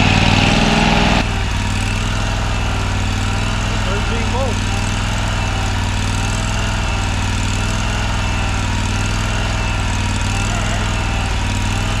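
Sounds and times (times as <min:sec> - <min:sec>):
mower engine idling: 0:00.0 - 0:12.0.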